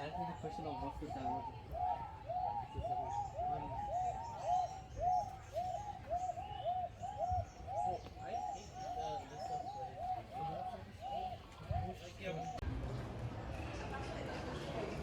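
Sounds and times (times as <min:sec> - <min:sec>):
flock of birds hooting: 0:00.0 - 0:12.6.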